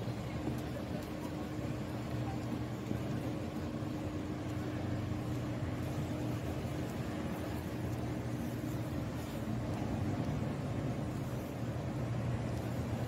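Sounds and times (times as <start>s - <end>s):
city street traffic hum: 0.0s - 13.0s.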